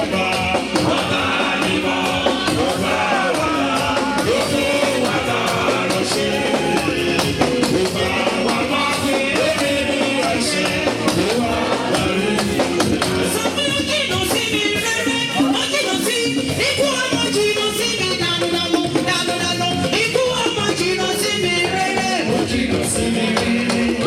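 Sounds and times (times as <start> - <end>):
singing: 0.0 - 24.0
steady percussion beat: 0.0 - 24.0.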